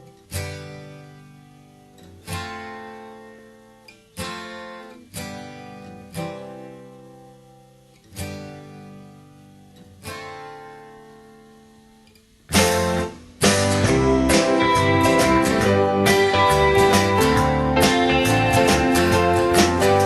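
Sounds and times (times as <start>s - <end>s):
acoustic guitar chords strummed: 0.0s - 20.0s.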